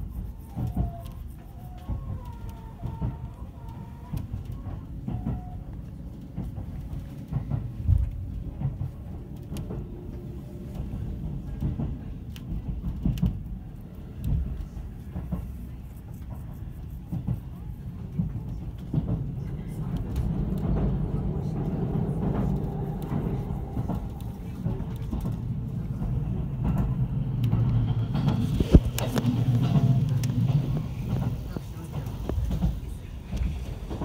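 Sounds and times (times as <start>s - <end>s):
train cabin rumble: 0.0s - 34.0s
wheels clicking on rails: 0.1s - 34.0s.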